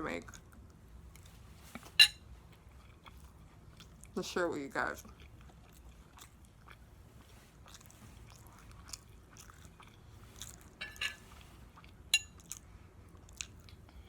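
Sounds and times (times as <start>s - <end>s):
wet chewing sounds: 0.1s - 14.0s.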